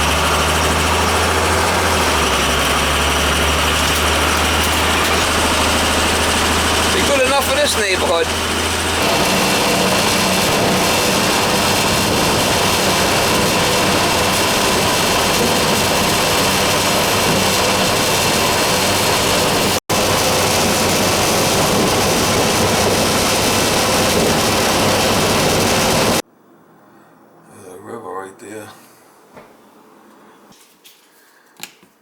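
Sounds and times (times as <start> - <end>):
vehicle cabin road noise: 0.0 - 26.2.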